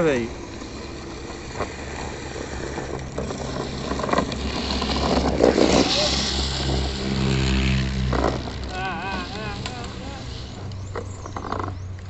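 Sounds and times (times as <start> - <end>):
low engine hum: 0.0 - 12.0
trike wheels scraping on asphalt: 0.0 - 12.0.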